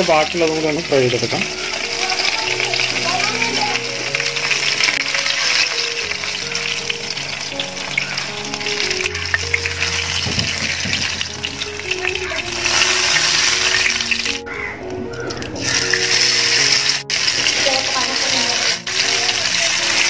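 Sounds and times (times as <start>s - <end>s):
oil sizzling in a frying pan: 0.0s - 20.0s.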